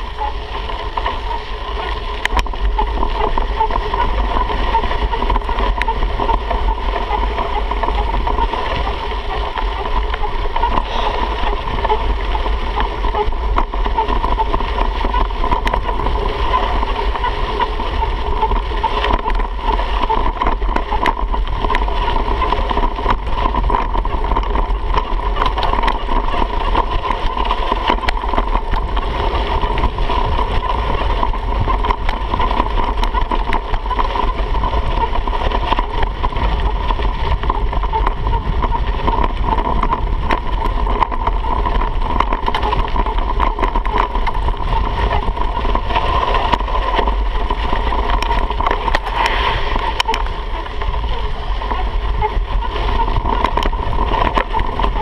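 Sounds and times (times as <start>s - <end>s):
bike rattles and knocks: 0.0s - 55.0s
wind and tyre rumble: 0.0s - 55.0s.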